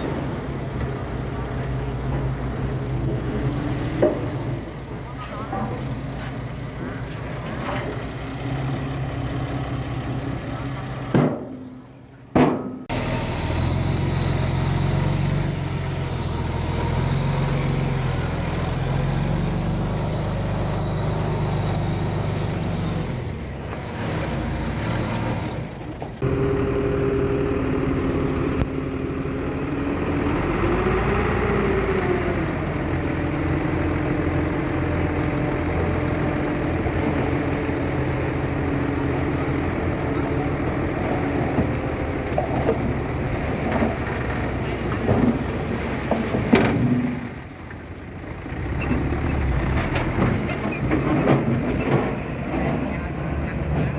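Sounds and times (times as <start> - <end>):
heavy diesel machinery running: 0.0 - 12.3, 12.9 - 53.9.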